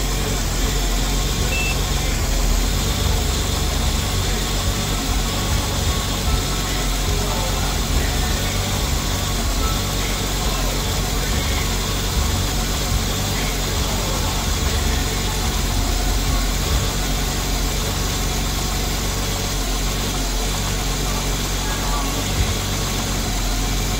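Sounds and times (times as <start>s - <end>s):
car engine running: 0.0s - 23.9s
car wheels spinning: 0.0s - 23.9s.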